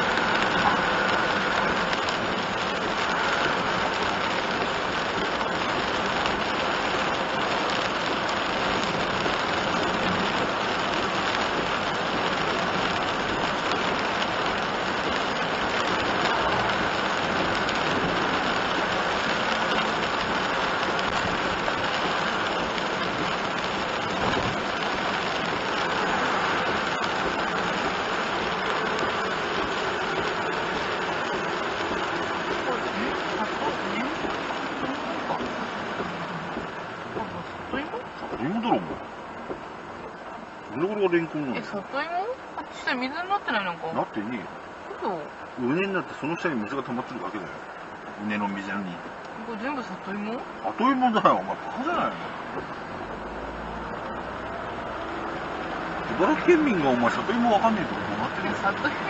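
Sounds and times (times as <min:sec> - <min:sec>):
heavy rain on windshield and roof: 0:00.0 - 0:59.0
tyres on wet road: 0:00.0 - 0:59.0.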